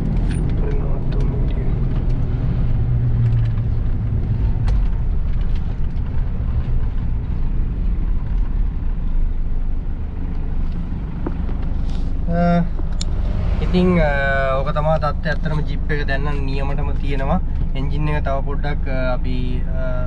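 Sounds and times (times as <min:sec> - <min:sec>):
diesel engine running: 0:00.0 - 0:20.0
road rumble: 0:00.0 - 0:20.0.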